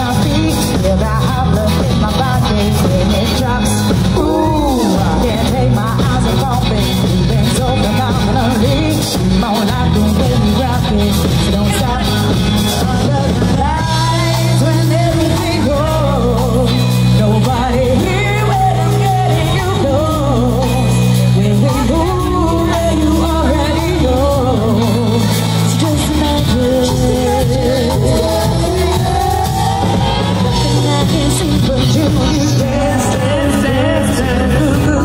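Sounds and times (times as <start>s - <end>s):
live pop-rock band: 0.0s - 35.0s
woman singing: 0.0s - 35.0s.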